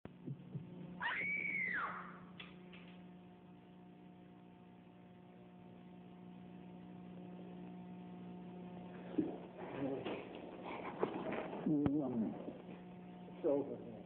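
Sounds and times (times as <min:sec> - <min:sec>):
low electrical hum: 0:00.1 - 0:14.0.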